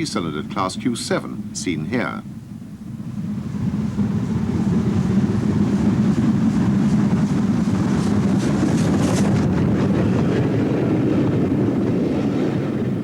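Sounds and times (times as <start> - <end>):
steam locomotive exhaust beats: 0.0 - 13.0.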